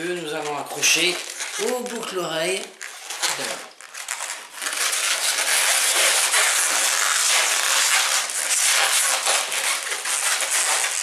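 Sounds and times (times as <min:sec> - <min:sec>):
balloons rubbing scratchily: 0:00.0 - 0:11.0.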